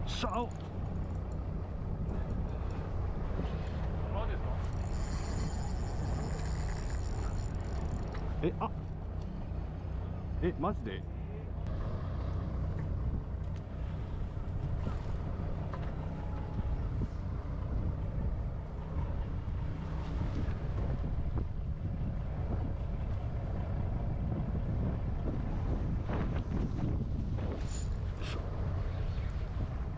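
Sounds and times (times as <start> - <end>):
wind buffeting microphone: 0.0 - 8.4, 12.8 - 29.9
faint hum: 0.0 - 25.8.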